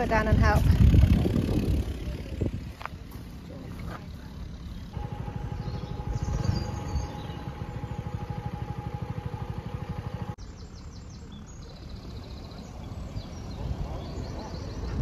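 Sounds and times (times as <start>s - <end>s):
birds chirping: 0.0s - 15.0s
diesel engine chugging: 0.0s - 15.0s.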